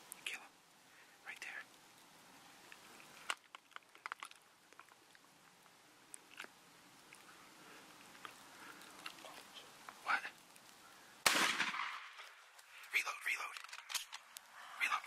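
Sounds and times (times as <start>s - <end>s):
faint ticks and crackles: 0.0s - 15.0s.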